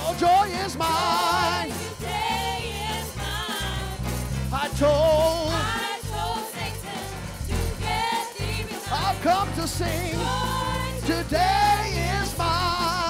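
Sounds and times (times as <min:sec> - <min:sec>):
live band with bass: 0:00.0 - 0:13.0.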